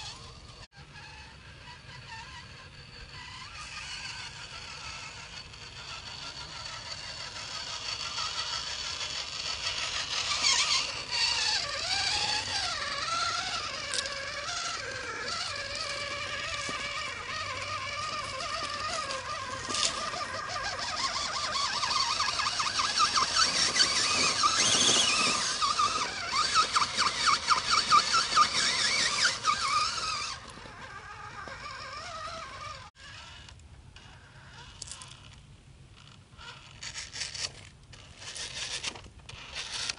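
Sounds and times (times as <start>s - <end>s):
toy truck motor whining: 0.0s - 39.9s.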